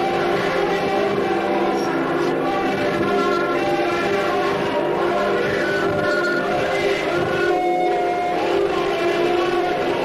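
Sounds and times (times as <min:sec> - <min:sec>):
held choral chords: 0:00.0 - 0:10.0.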